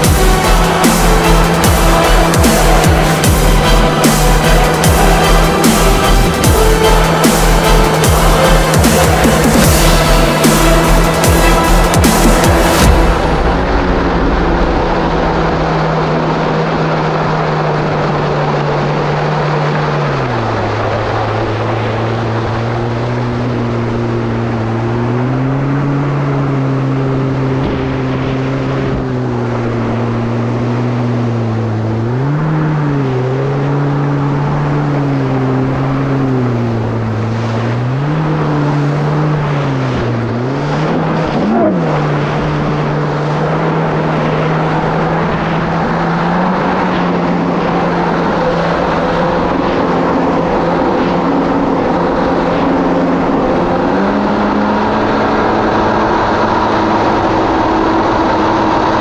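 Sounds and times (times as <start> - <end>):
jet ski engine running: 0.0 - 59.0
rush of wind and water: 0.0 - 59.0.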